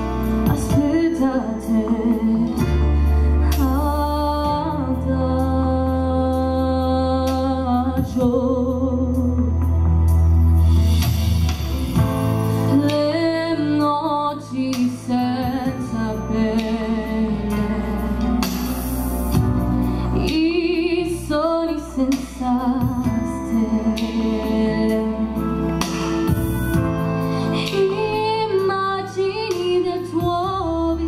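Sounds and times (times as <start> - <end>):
woman singing a ballad: 0.0 - 9.8, 12.6 - 26.3, 27.2 - 31.0
instrumental accompaniment: 0.0 - 30.9.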